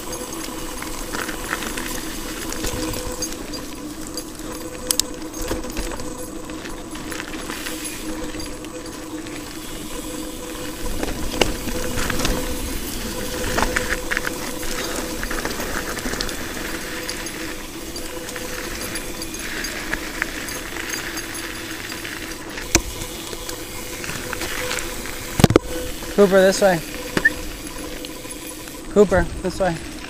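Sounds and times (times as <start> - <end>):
bike rattling over bumps: 0.0 - 30.0
bike tyres on dirt trail: 0.0 - 30.0.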